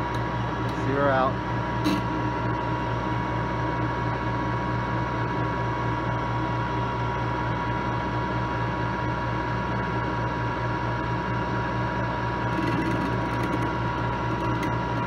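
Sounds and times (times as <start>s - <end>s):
lathe humming with high whine: 0.0s - 15.0s.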